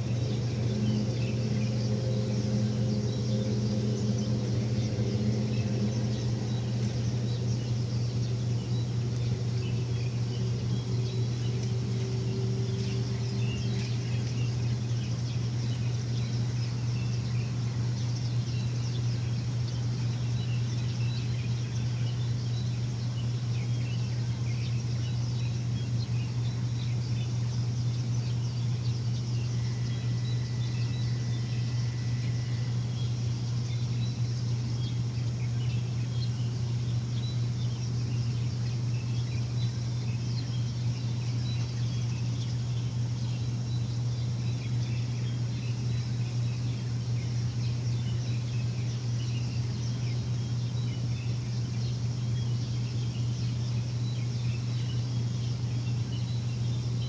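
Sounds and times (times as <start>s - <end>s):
birds chirping: 0.0s - 57.0s
machine humming: 0.0s - 57.0s.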